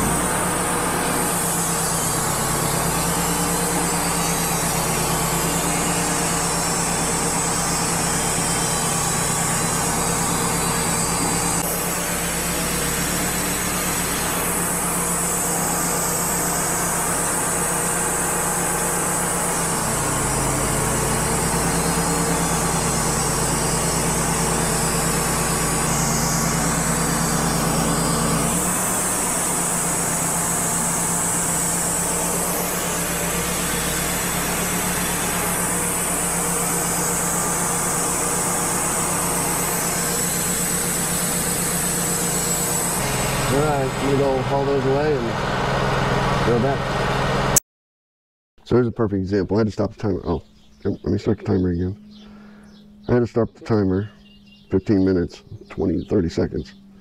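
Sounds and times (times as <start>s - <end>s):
sawmill engine running: 0.0s - 47.6s.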